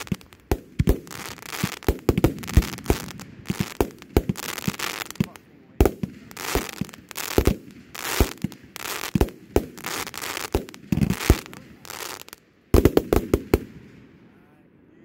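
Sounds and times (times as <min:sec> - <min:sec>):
fireworks crackling: 0:00.0 - 0:14.2
fireworks bangs: 0:00.0 - 0:14.3.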